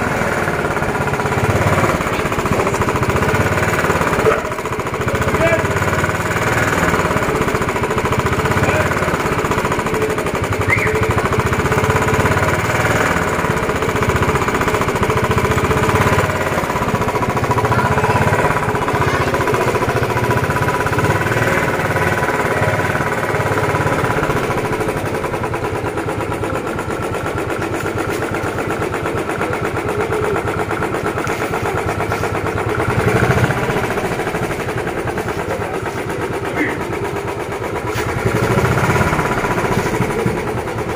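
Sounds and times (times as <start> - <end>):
motorcycle engine thumping: 0.0 - 40.9.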